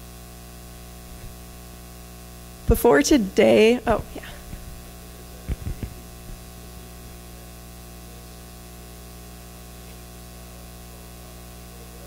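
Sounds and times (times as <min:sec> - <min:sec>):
steady hiss: 0:00.0 - 0:10.3
low electrical hum: 0:00.0 - 0:12.0.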